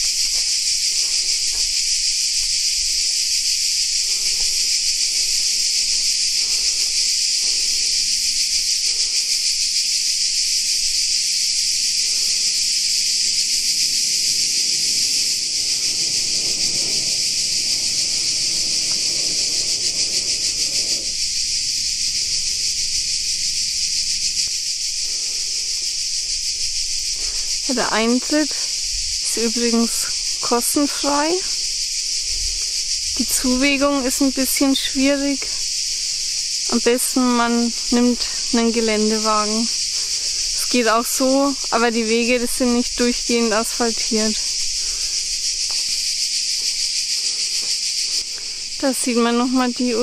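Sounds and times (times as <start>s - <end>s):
cicadas buzzing: 0.0s - 50.0s.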